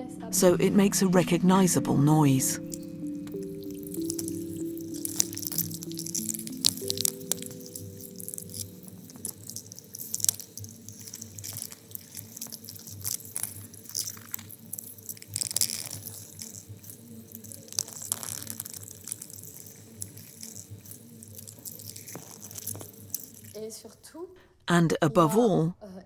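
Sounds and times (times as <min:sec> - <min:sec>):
underwater hum: 0:00.0 - 0:23.4
sea urchin crackling and clicking: 0:01.5 - 0:24.2.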